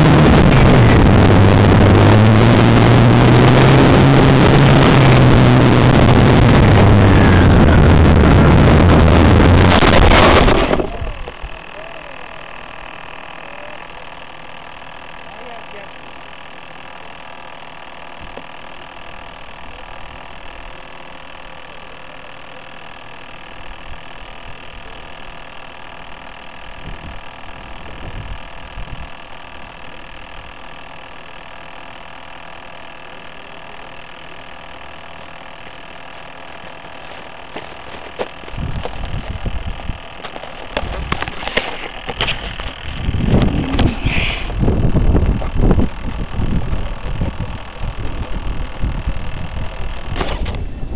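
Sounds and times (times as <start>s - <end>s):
electronic whine: 0.0s - 50.9s.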